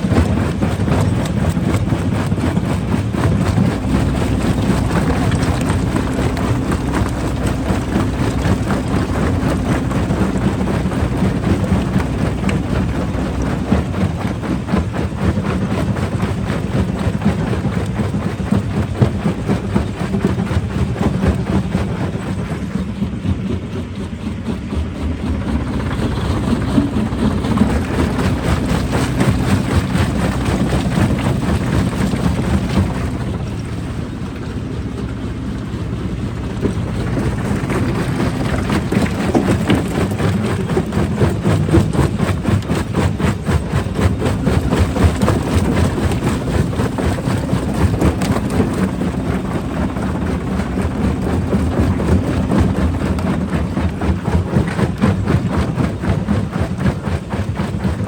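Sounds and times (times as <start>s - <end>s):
gritty machinery rattle and clatter: 0.0s - 58.0s
low diesel engine drone: 0.0s - 58.0s.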